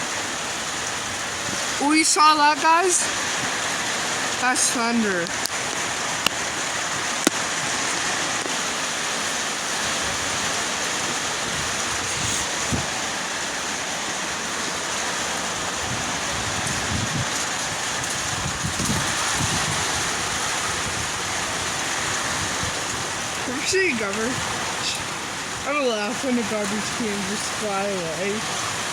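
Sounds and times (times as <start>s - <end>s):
heavy rain pouring: 0.0s - 28.9s
wind rumbling on microphone: 0.0s - 28.9s.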